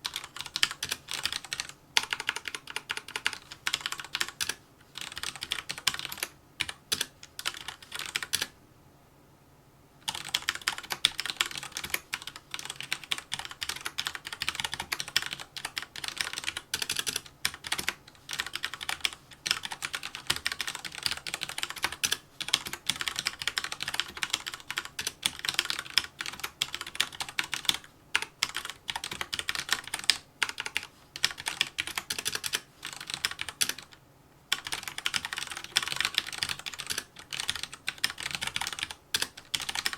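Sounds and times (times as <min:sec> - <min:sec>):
fast typing on mechanical keyboard: 0:00.0 - 0:08.5, 0:10.0 - 0:39.9.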